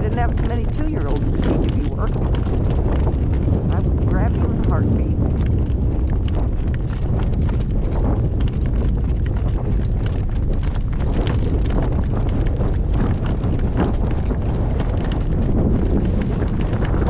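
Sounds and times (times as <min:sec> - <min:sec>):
horse hooves clip-clopping: 0:00.0 - 0:17.0
wind rumbling on microphone: 0:00.0 - 0:17.0.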